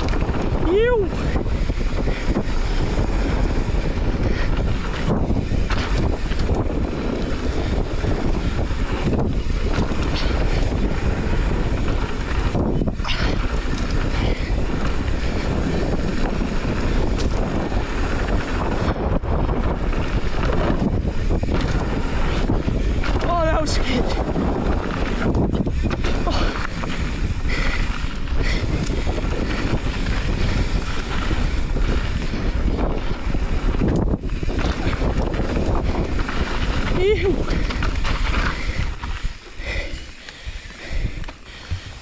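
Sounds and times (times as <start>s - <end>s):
bike knocks and rattles: 0.0s - 42.0s
bike tyres rolling on dirt: 0.0s - 42.0s
wind buffeting microphone: 0.0s - 42.0s.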